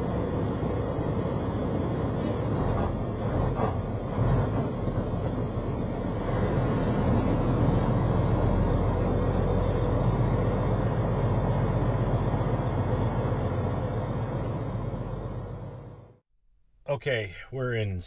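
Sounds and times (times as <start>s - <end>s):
truck engine drone in cab: 0.0s - 16.2s.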